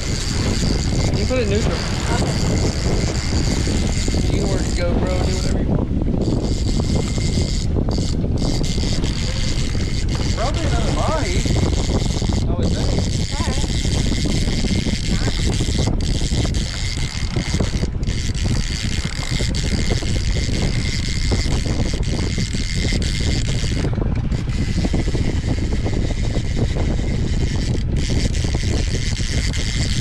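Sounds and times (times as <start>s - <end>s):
outboard engine idling: 0.0s - 30.0s
wind rumble on microphone: 0.0s - 30.0s.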